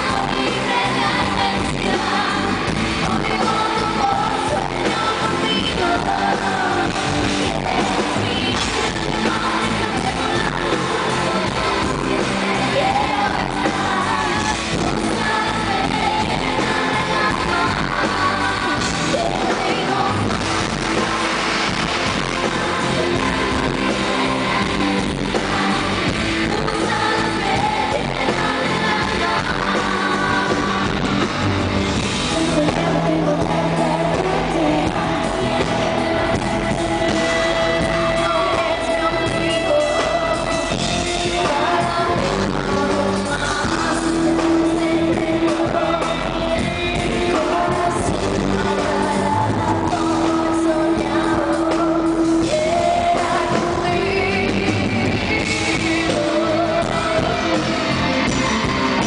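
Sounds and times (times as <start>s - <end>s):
live pop-rock band: 0.0s - 59.0s
woman singing: 0.0s - 59.0s.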